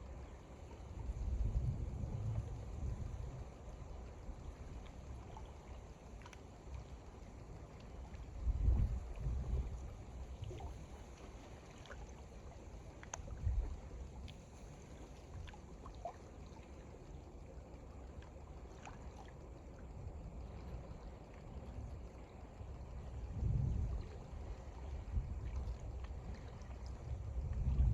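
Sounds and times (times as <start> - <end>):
small waves lapping: 3.4 - 23.3, 23.9 - 27.8.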